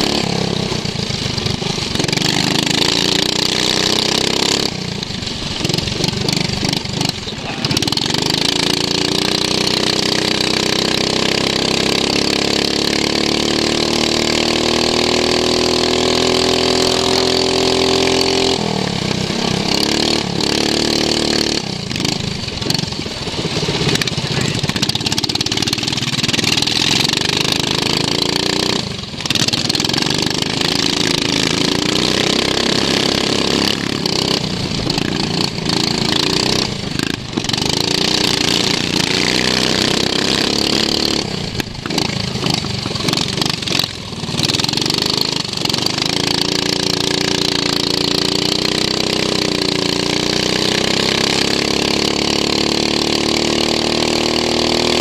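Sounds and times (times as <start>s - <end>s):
racing lawn mower engine: 0.0s - 55.0s.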